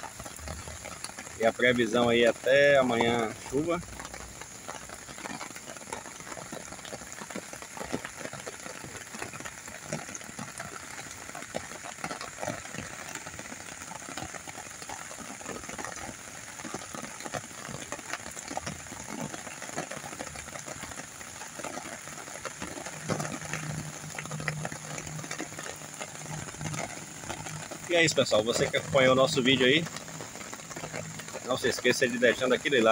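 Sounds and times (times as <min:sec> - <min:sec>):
steady rain patter: 0:00.0 - 0:32.9.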